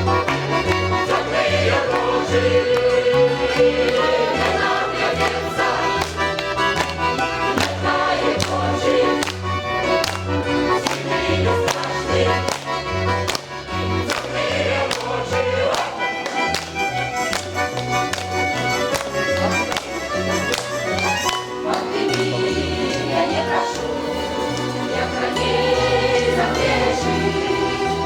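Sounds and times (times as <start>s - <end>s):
folk band instrumental: 0.0s - 28.0s.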